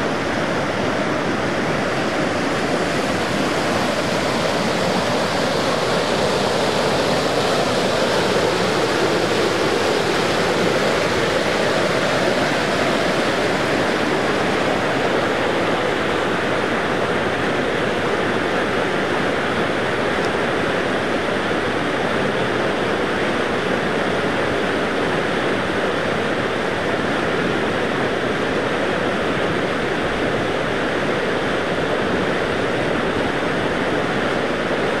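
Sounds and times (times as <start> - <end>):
floodwater rushing: 0.0 - 35.0.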